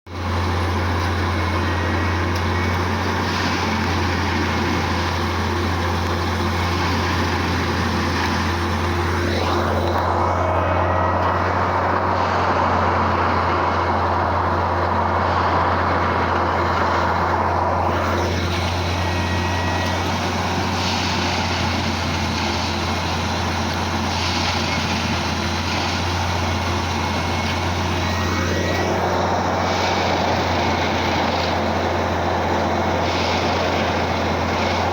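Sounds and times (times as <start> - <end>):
track machine engine hum: 0.1 - 34.9.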